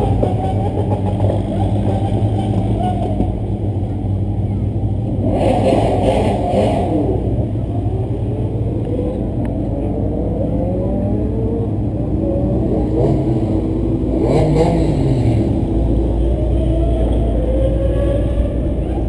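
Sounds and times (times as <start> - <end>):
sports car engines revving: 0.0 - 19.0.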